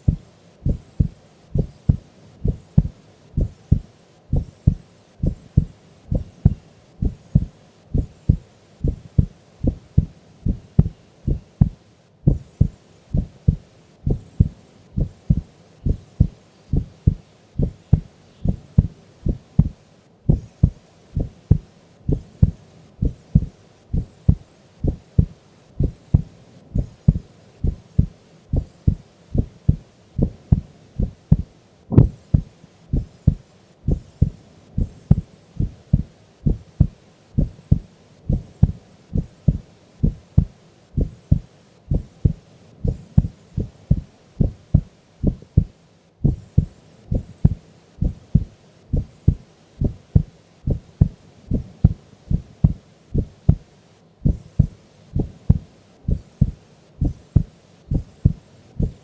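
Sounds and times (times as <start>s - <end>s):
slow heartbeat thumps: 0.0s - 59.0s.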